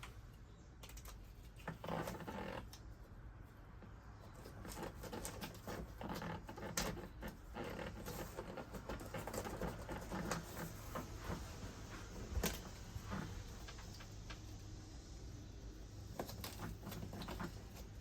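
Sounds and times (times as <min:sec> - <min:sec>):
adhesive strips clicks and rustles: 0:00.0 - 0:03.0, 0:04.2 - 0:14.6, 0:16.1 - 0:18.0.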